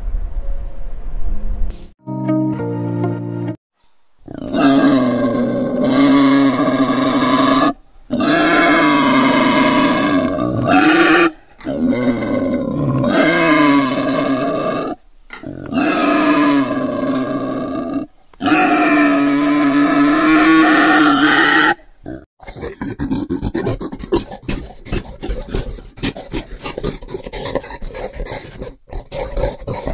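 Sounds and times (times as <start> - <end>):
pig grunting: 4.3 - 29.9.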